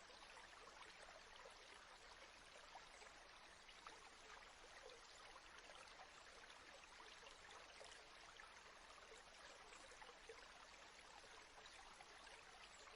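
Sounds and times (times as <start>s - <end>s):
faint steady hiss: 0.0s - 12.9s.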